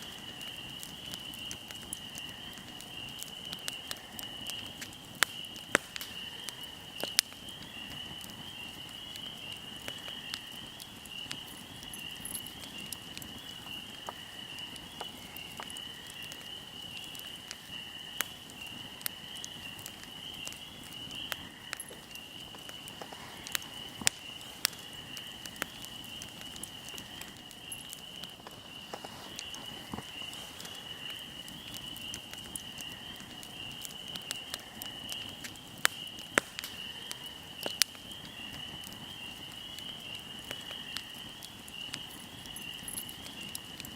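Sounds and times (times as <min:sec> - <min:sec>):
crickets trilling: 0:00.0 - 0:43.9
fire crackling: 0:00.0 - 0:43.9.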